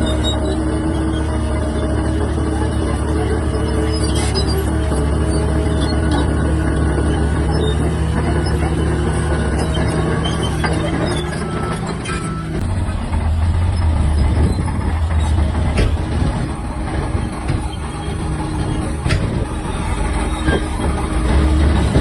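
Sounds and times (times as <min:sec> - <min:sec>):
bulldozer diesel engine running: 0:00.0 - 0:22.0
metallic track clanks: 0:00.0 - 0:22.0.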